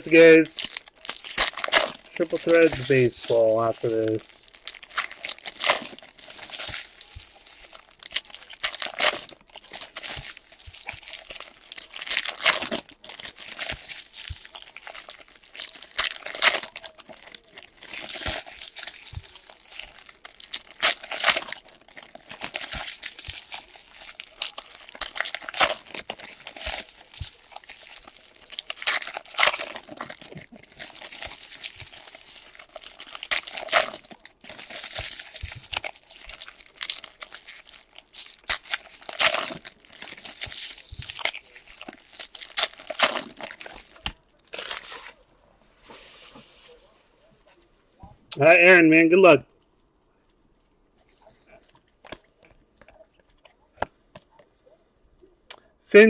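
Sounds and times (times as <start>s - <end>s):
packaging crinkling and tearing: 0.0s - 46.9s.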